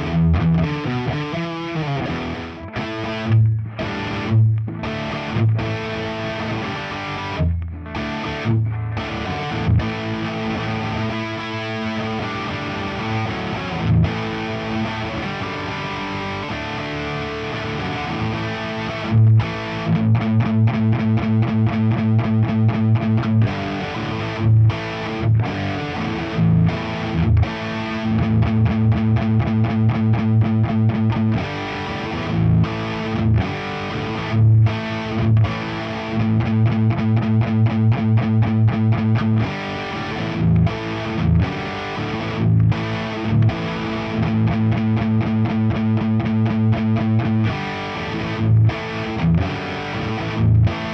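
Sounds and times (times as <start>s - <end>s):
distorted electric guitar riffing: 0.0s - 50.9s.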